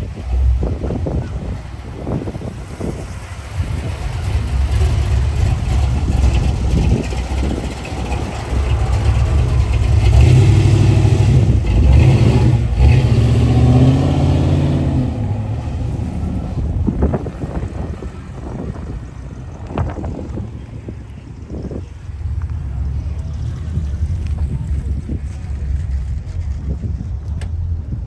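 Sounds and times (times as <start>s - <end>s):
car engine deep rumble: 0.0s - 28.0s.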